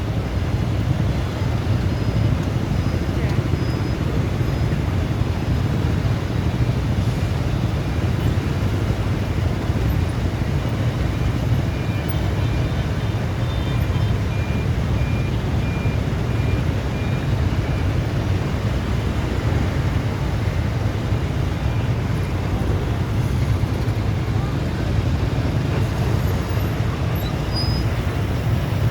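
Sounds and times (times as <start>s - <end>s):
low outdoor rumble: 0.0s - 28.9s.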